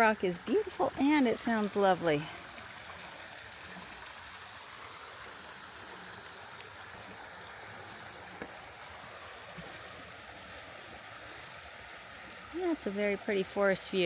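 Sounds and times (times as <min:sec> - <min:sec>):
creek trickling over rock: 0:00.0 - 0:14.0.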